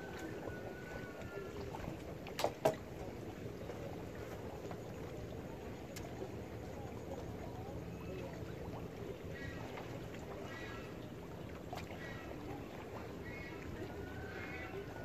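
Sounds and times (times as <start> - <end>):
low even hum: 0.0 - 15.0
water moving against a raft: 0.0 - 15.0.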